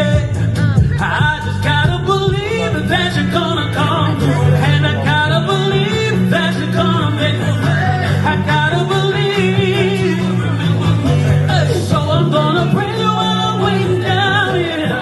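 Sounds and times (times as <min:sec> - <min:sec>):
held bass notes: 0:00.0 - 0:15.0
person singing: 0:00.0 - 0:15.0.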